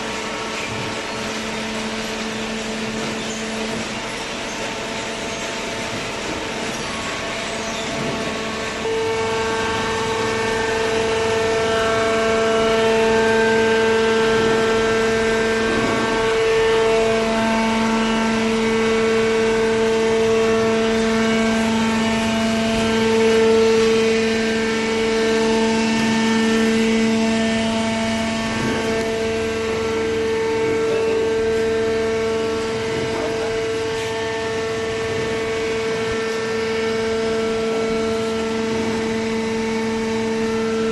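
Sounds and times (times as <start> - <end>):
baler motor droning: 0.0 - 40.9.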